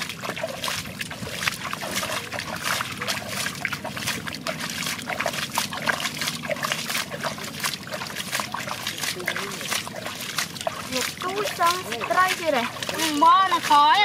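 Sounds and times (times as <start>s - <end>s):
hands splashing muddy water: 0.0s - 14.0s.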